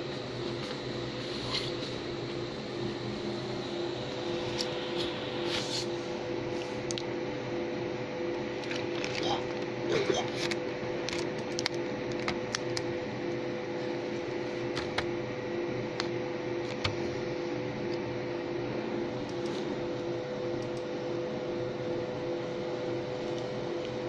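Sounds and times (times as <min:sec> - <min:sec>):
fans running: 0:00.0 - 0:24.0
laser machine humming: 0:00.0 - 0:24.0.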